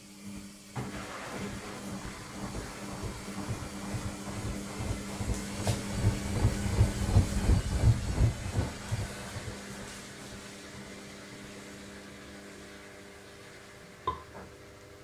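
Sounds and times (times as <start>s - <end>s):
washing machine spinning: 0.5s - 15.0s.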